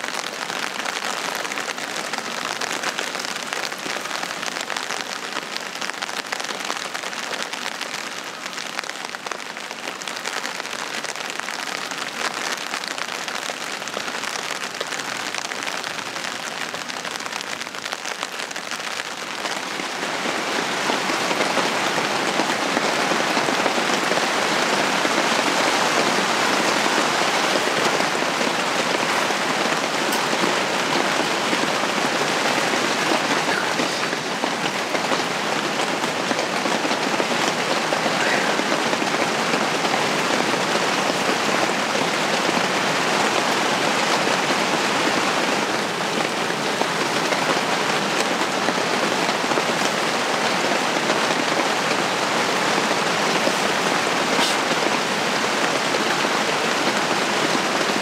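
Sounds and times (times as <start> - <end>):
rain drumming on tent fabric: 0.0 - 58.0.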